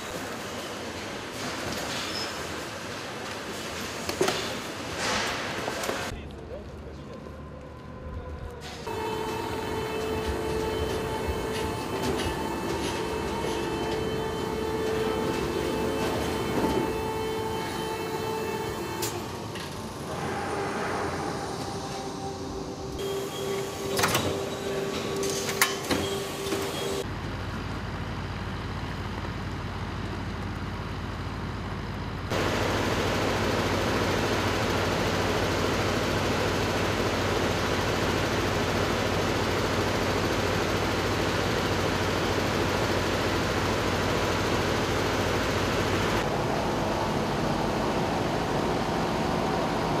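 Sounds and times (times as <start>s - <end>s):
crane engine running: 0.0s - 50.0s
workshop machinery hum: 0.0s - 50.0s.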